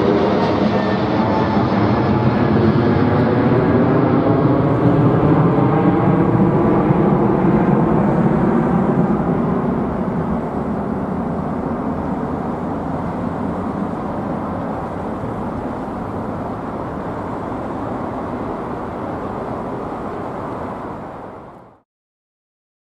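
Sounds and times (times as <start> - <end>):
jet engines rumbling at takeoff: 0.0 - 21.8.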